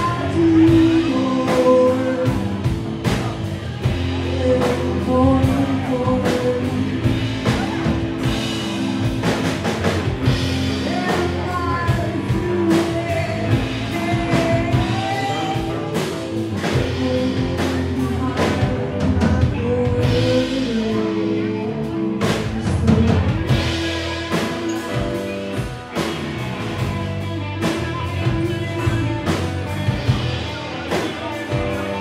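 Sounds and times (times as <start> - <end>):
woman singing: 0.0 - 8.6, 10.3 - 25.7, 27.8 - 32.0
live rock band playing: 0.0 - 32.0.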